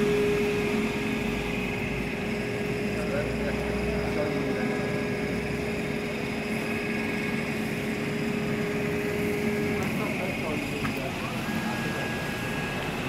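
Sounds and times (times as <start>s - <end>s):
constant machine tone: 0.0s - 13.0s
plasma cutting machine hum: 0.0s - 13.0s.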